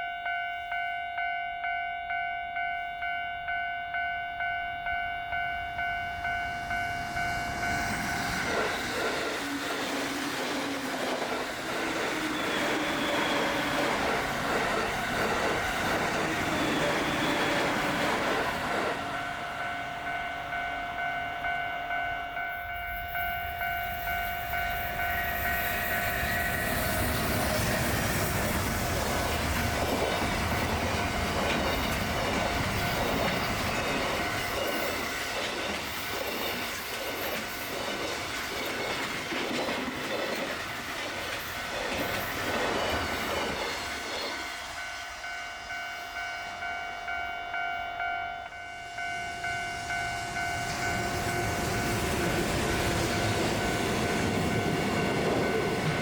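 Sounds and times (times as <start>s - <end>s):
crossing warning bell: 0.0s - 56.0s
train wheels clacking on rails: 5.7s - 47.6s, 48.5s - 56.0s.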